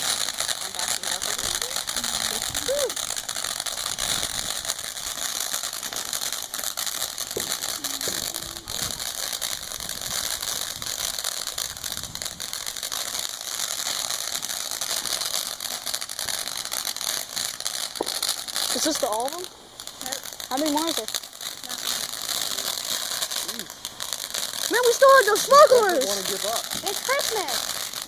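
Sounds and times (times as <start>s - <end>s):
firework crackling hiss: 0.0s - 28.0s.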